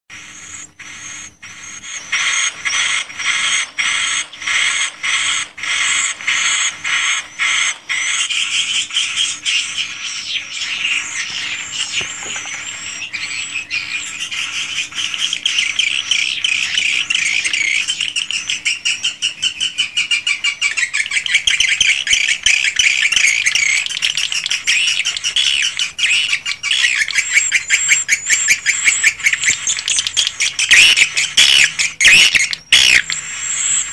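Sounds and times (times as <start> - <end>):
swiftlets twittering: 0.1 - 19.8, 20.4 - 33.9.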